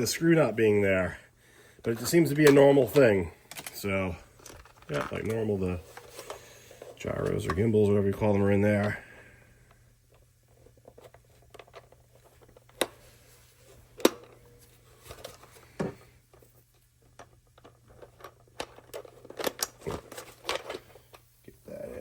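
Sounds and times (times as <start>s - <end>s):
plastic parts clicking and rustling: 1.8s - 21.2s.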